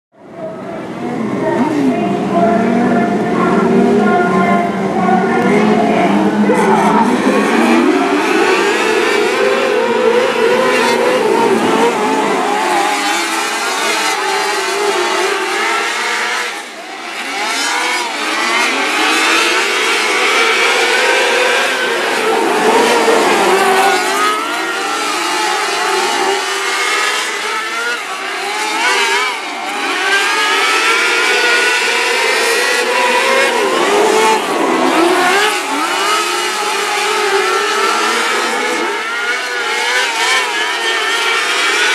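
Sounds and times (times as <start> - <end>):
race car engines: 0.1 - 41.9.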